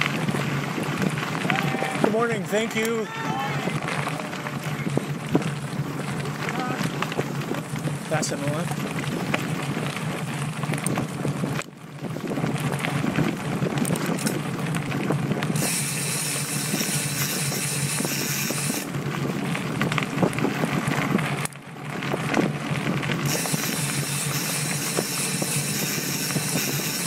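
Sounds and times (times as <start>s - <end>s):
bike rattling: 0.0s - 27.0s
bike tyres on dirt trail: 0.0s - 27.0s
wind noise: 0.0s - 27.0s.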